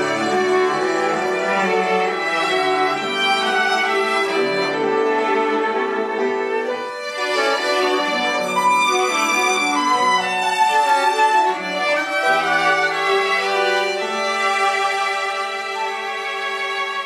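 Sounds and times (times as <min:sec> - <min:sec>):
string ensemble playing: 0:00.0 - 0:17.0.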